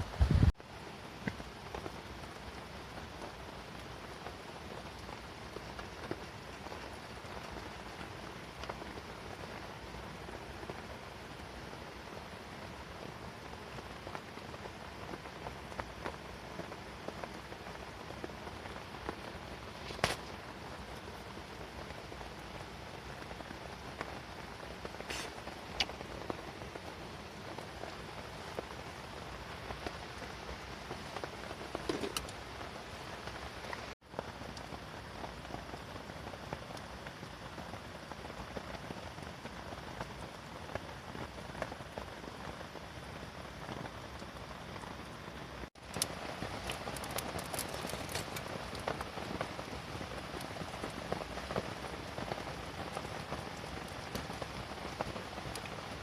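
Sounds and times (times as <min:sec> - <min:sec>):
rain falling on a tent: 0:00.0 - 0:56.0.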